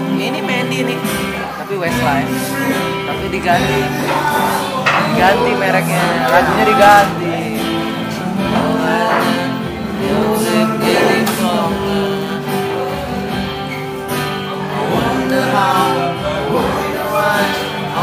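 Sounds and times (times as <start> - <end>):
acoustic guitar: 0.0 - 18.0
person singing: 0.0 - 18.0.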